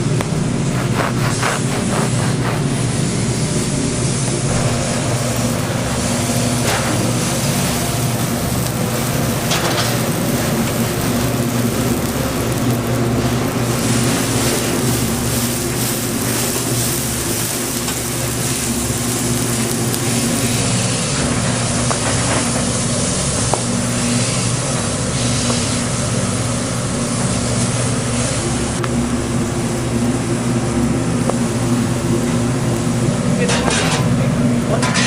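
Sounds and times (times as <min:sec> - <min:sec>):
steady hiss: 0:00.0 - 0:33.4
low droning hum: 0:00.0 - 0:35.0.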